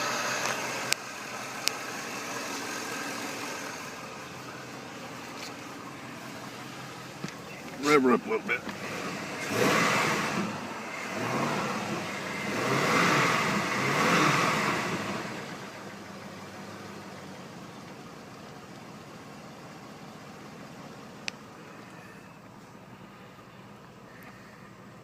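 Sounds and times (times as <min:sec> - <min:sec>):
engine revving and idling: 0:00.0 - 0:25.0.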